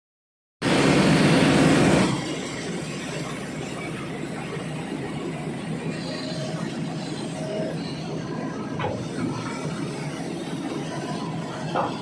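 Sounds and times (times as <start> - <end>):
heavy machinery engine running: 0.6 - 12.0.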